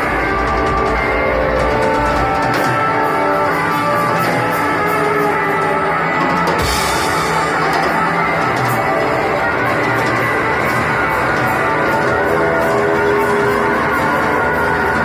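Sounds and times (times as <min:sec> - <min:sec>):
cymbal crash: 0:00.0 - 0:15.0
rock band playing live: 0:00.0 - 0:15.0.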